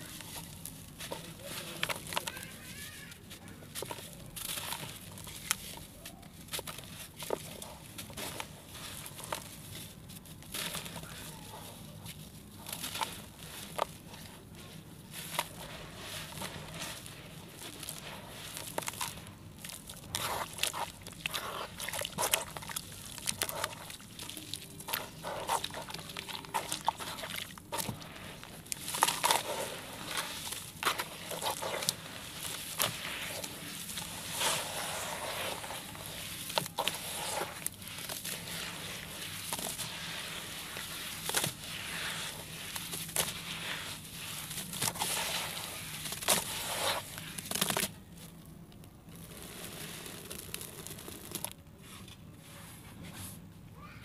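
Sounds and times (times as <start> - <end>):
wet crunching and squishing by hand: 0.0 - 52.2.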